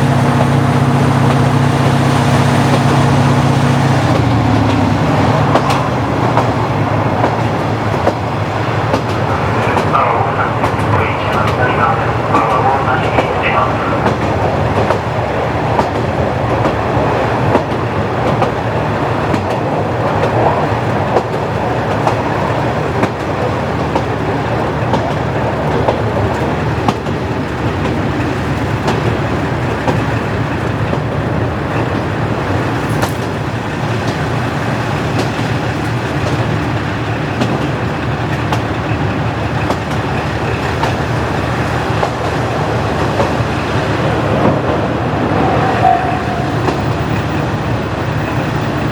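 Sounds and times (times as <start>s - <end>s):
wheels clicking over rail joints: 0.0s - 48.4s
diesel railcar engine drone: 0.0s - 48.9s.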